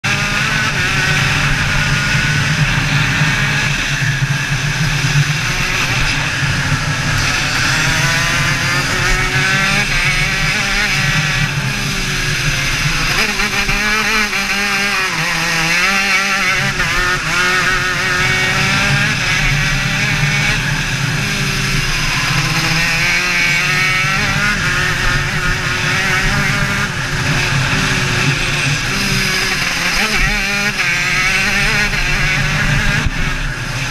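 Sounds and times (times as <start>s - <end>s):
kart engine revving: 0.0s - 33.9s.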